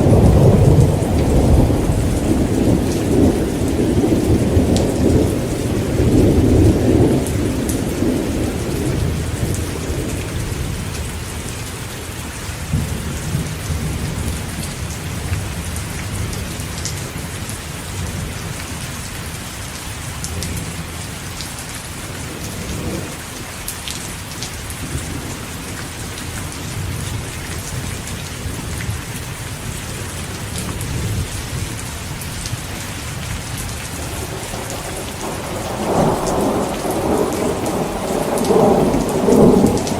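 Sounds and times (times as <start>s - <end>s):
thunder rumbling: 0.0s - 18.4s, 22.1s - 23.4s, 24.7s - 39.9s
heavy rain falling: 0.0s - 39.9s.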